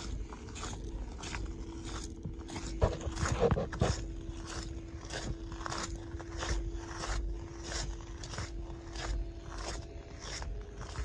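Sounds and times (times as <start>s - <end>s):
faint steady hum: 0.0s - 11.0s
footsteps on gravel: 0.0s - 11.0s.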